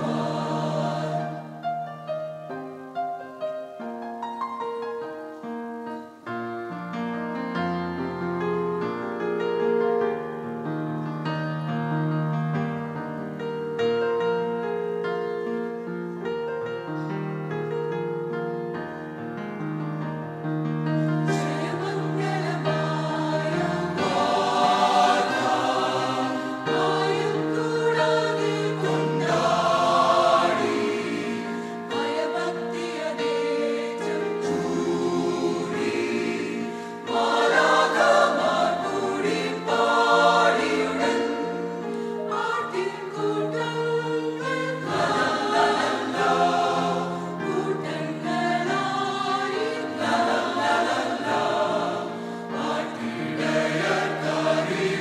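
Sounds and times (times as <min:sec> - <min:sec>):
choir singing in harmony: 0:00.0 - 0:19.6, 0:20.8 - 0:55.0.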